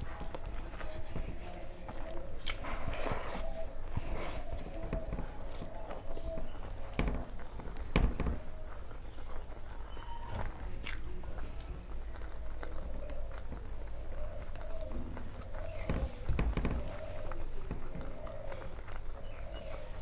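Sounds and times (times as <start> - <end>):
person chewing and smacking: 0.0 - 20.0.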